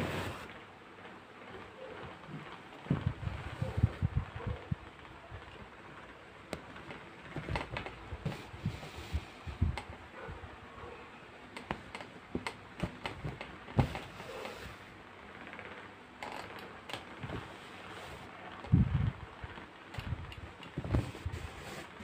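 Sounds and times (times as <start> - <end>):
yarn clicks taps and rustles: 0.0 - 10.1, 11.4 - 22.0.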